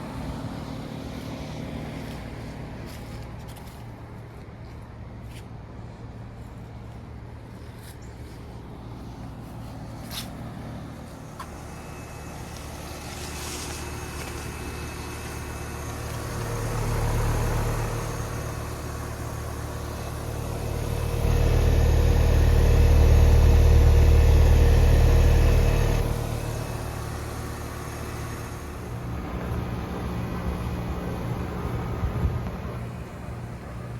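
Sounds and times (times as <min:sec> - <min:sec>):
heat pump humming: 0:00.0 - 0:04.4, 0:08.5 - 0:33.9.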